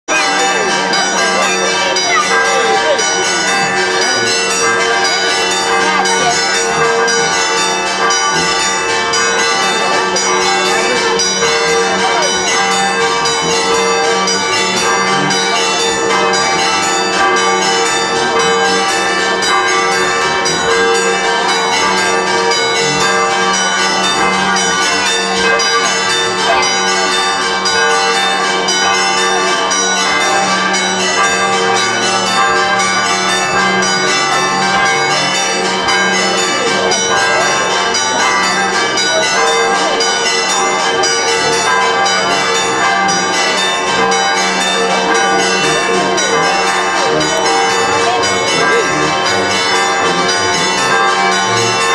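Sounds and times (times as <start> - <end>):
church bells ringing: 0.1 - 51.9.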